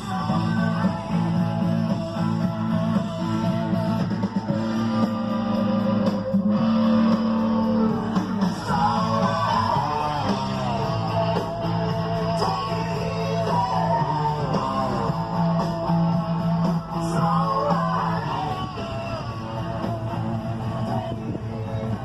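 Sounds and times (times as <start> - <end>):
guitar rock music: 0.0 - 22.0.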